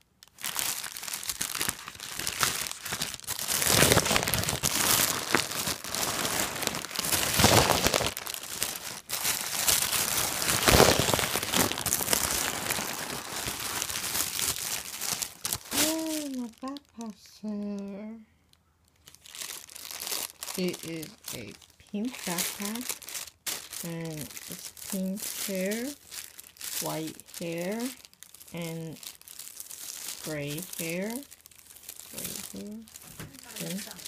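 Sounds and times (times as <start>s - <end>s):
plastic crinkling and rustling: 0.0s - 17.0s, 18.8s - 34.0s.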